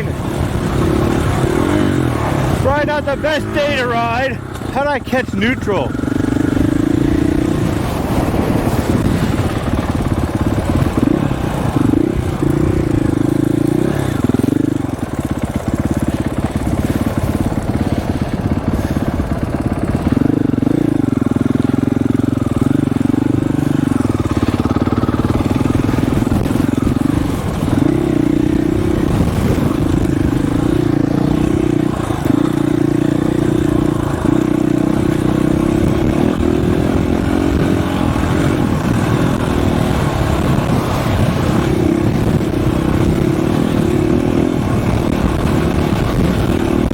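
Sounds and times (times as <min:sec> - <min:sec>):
dirt bike engine revving: 0:00.0 - 0:46.9
wind buffeting microphone: 0:00.0 - 0:46.9.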